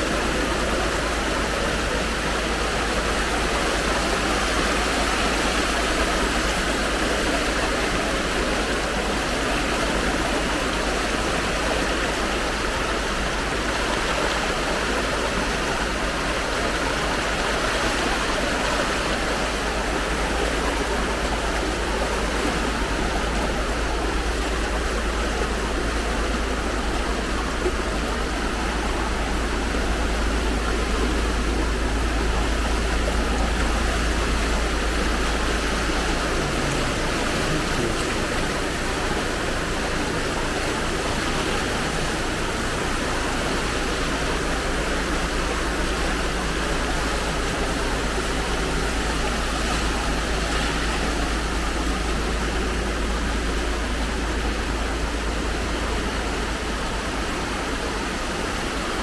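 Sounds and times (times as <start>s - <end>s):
floodwater rushing: 0.0s - 59.0s.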